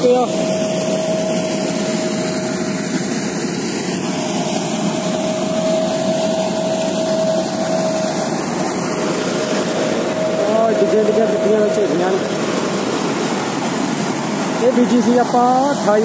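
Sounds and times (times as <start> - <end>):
combine harvester drone: 0.0 - 16.0
constant high whine: 0.0 - 16.0.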